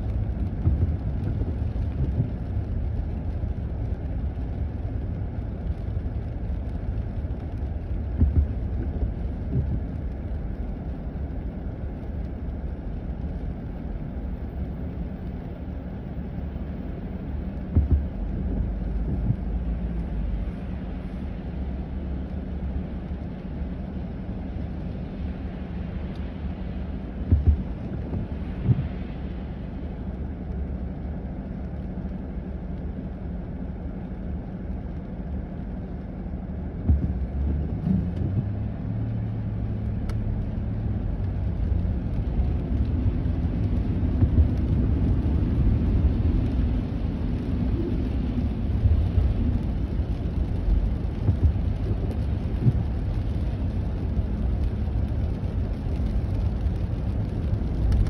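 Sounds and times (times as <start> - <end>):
car engine rumble: 0.0 - 58.0
tyres on wet slushy road: 0.0 - 58.0.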